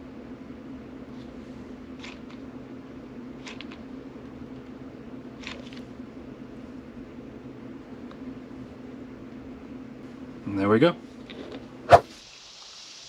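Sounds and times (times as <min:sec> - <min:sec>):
low machine hum: 0:00.0 - 0:12.3.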